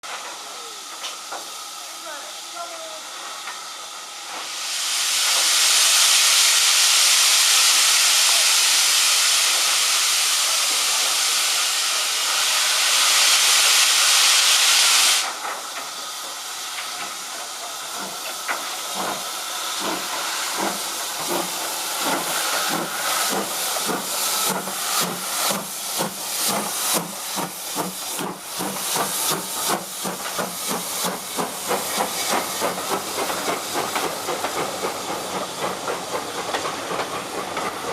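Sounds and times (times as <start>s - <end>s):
steam hissing: 0.0s - 37.9s
steam locomotive exhaust beats: 0.1s - 37.9s.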